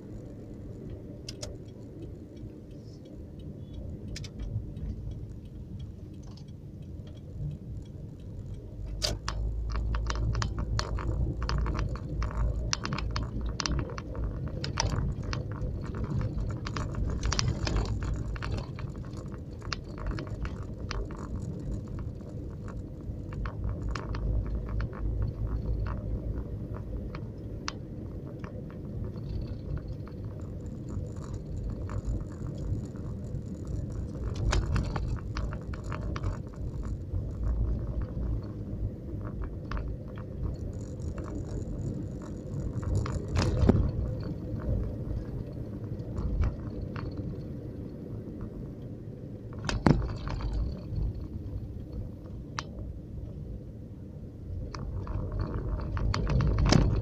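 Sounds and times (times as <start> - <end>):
car road rumble: 0.0 - 57.0
small clicks and rattles: 0.0 - 57.0.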